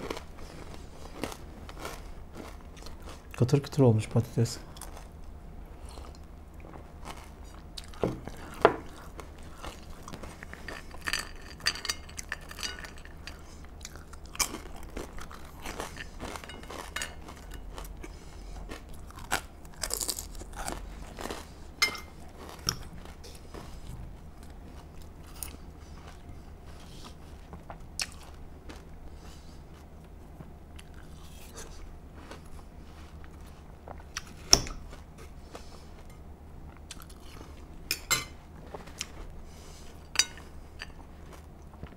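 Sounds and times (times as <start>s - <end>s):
crunching and chewing fries: 0.0s - 41.9s.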